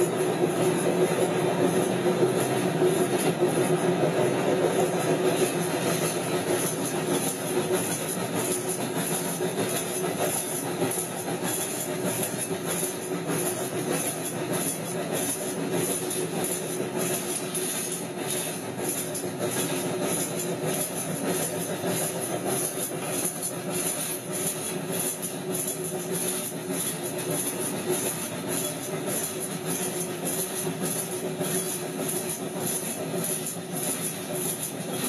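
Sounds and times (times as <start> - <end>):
metallic rattle and clatter: 0.0 - 35.0
railroad car rumbling on track: 0.0 - 35.0.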